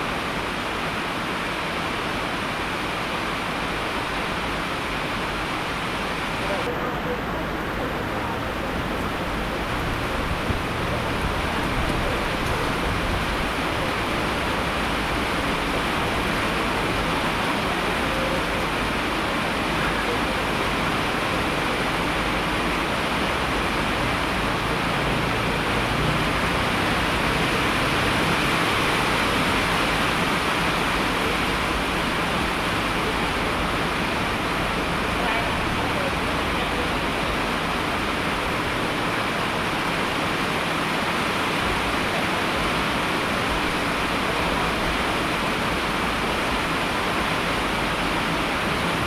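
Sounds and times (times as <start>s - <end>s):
steady rain: 0.0s - 49.0s.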